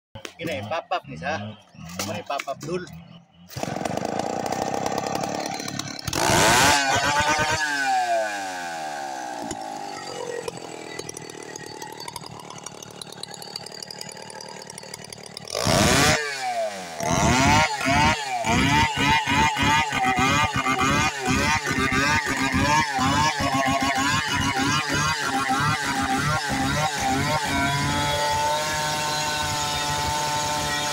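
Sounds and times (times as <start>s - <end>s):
chainsaw revving and idling: 3.4s - 30.9s.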